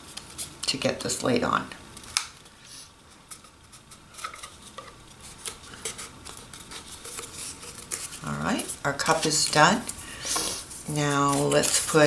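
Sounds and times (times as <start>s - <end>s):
paper rustling: 2.0s - 12.0s.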